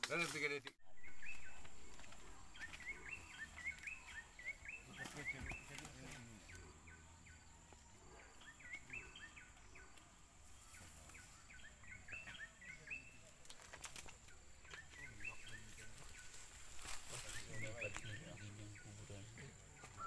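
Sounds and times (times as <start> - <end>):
faint bird chirping: 0.8 - 20.0.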